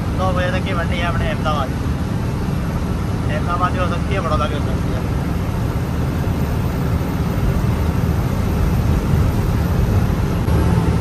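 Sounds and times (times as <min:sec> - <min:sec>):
truck driving on highway: 0:00.0 - 0:11.0.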